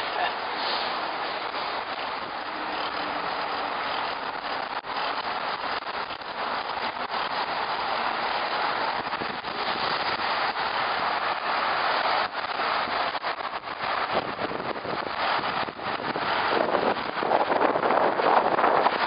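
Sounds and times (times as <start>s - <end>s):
bicycle tyre noise: 0.0s - 19.0s
wind rushing: 0.0s - 19.0s.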